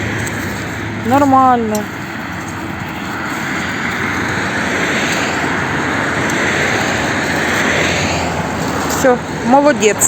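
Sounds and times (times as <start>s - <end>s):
passing vehicle rushing: 0.0s - 10.0s.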